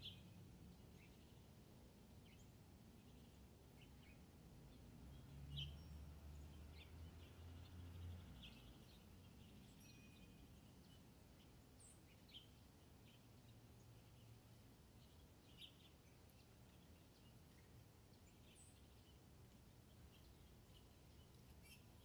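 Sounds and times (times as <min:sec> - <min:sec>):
bird chirps: 0:00.0 - 0:01.5, 0:05.1 - 0:14.4, 0:15.0 - 0:22.0.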